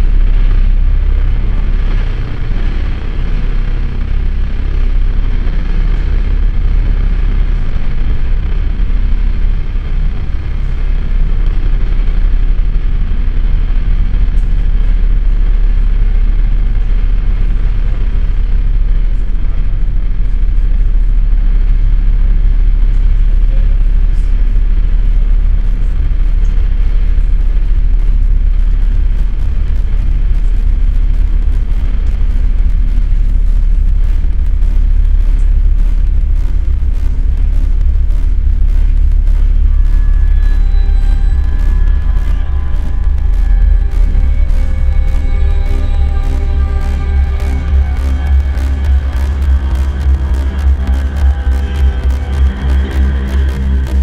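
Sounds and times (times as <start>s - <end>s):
experimental drone-noise music: 0.0s - 54.0s.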